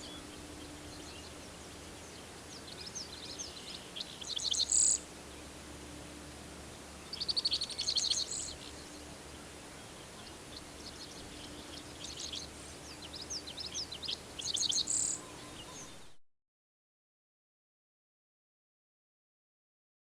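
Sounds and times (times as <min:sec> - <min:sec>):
songbirds trilling and chirping: 0:00.0 - 0:16.2.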